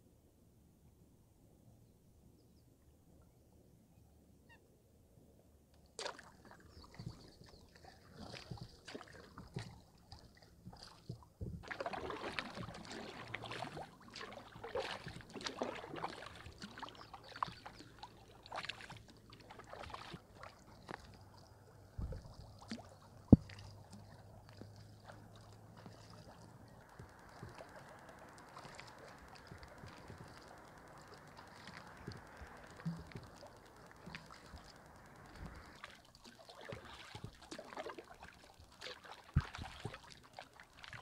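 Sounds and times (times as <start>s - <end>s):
paddle strokes in water: 6.0s - 41.0s.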